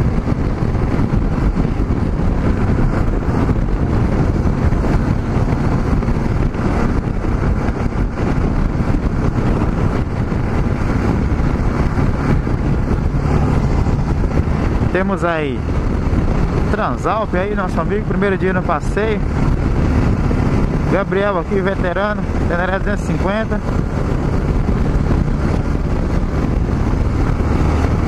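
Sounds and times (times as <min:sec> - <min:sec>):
motorcycle engine cruising: 0:00.0 - 0:28.0
wind buffeting microphone: 0:00.0 - 0:28.0.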